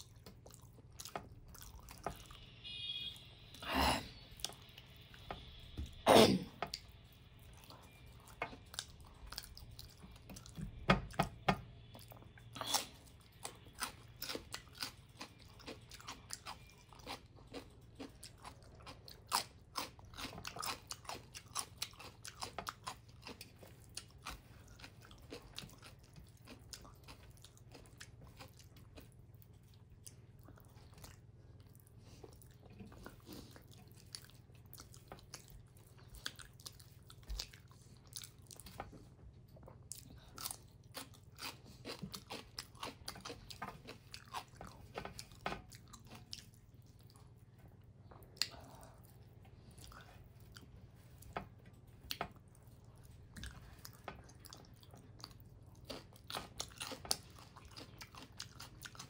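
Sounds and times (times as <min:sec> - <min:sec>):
faint low hum: 0:00.0 - 0:59.0
wet chewing and mouth smacks: 0:06.6 - 0:59.0.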